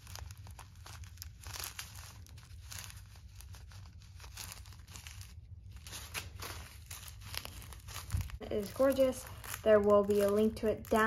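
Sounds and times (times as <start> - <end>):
plastic zip bags crinkling: 0.0 - 11.0.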